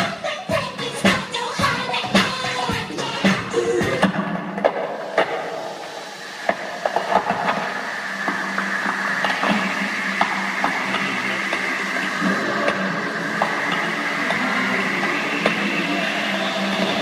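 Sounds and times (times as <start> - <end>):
droning hum with hiss: 0.0 - 17.0.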